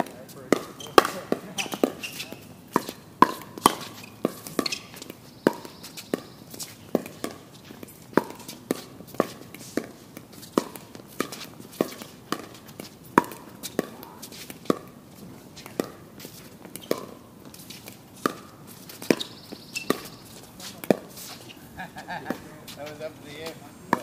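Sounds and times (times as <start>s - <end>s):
pickleball popping off paddles: 0.0s - 22.6s, 23.3s - 24.0s.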